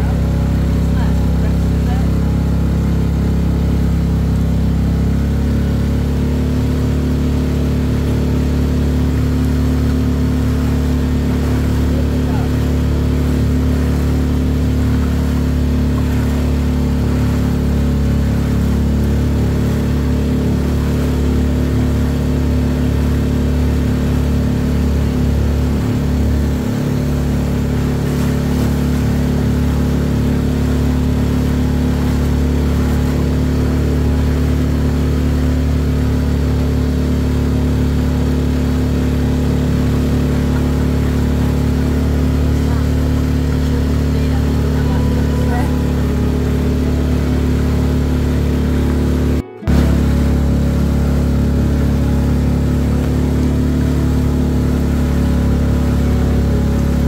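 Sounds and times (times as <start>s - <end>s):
speedboat engine droning: 0.0s - 57.0s
water rushing along hull: 0.0s - 57.0s.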